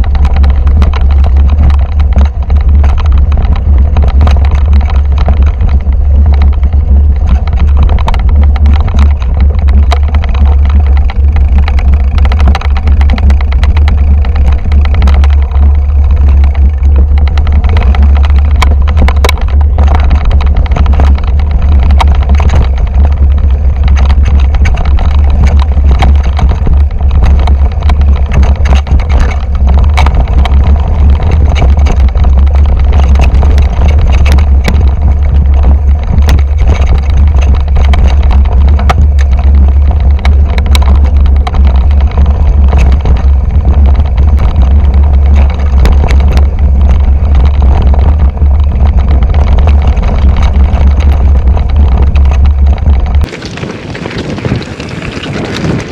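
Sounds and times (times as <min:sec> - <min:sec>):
clicks and knocks on stones: 0:00.0 - 0:55.9
mountain bike rattling: 0:00.0 - 0:55.9
wind buffeting microphone: 0:00.0 - 0:55.9.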